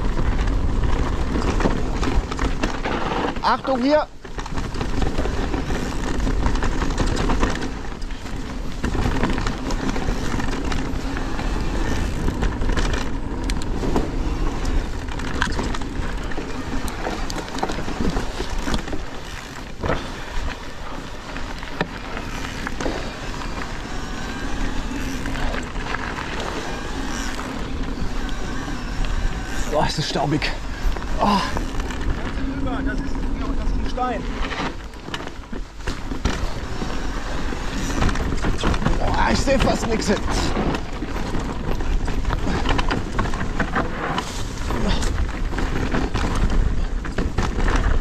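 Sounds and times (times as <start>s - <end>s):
bike rattling: 0.0s - 48.0s
tyres over dirt and stones: 0.0s - 48.0s.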